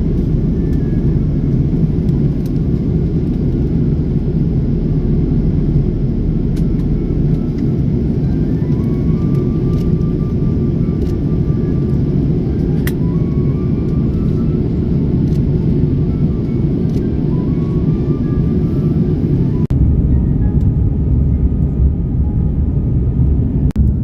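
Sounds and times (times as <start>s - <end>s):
airliner cabin drone: 0.0s - 24.0s.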